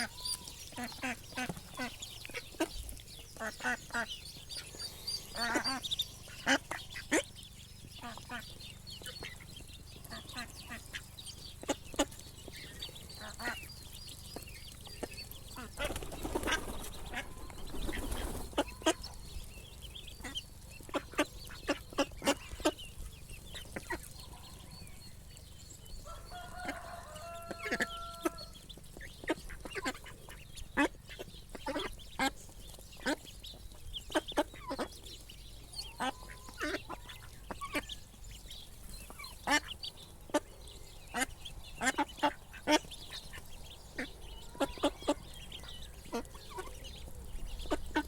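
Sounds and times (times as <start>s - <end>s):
ducklings pecking clicks: 0.0s - 25.8s, 26.4s - 40.5s, 41.1s - 48.0s.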